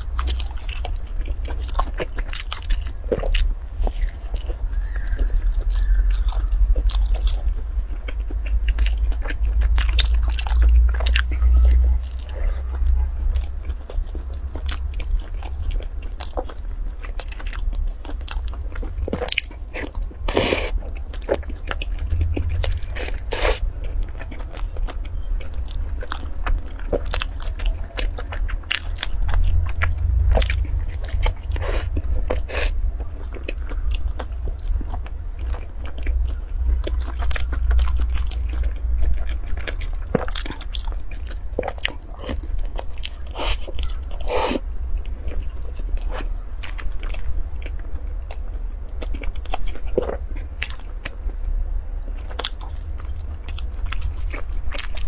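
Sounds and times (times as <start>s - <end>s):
chewing with sharp crunches: 0.0s - 55.0s
low rumble: 0.0s - 55.0s.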